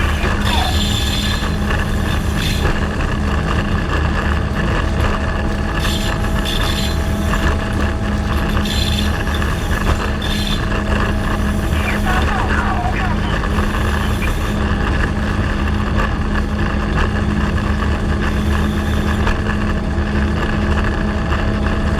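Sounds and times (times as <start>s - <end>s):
diesel locomotive engine hum: 0.0s - 21.9s.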